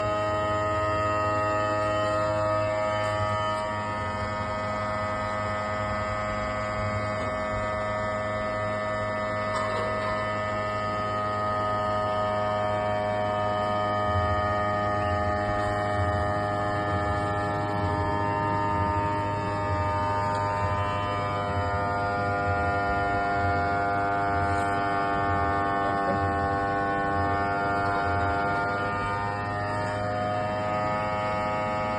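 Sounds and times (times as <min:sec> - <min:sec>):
electric car hum: 0:00.0 - 0:31.9
low throbbing drone: 0:00.0 - 0:31.9.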